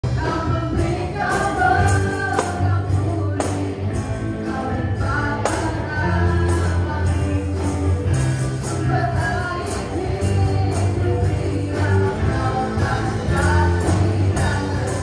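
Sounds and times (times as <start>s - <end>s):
worship song over loudspeakers: 0.0s - 15.0s
tambourine strikes: 1.2s - 4.6s, 5.2s - 15.0s.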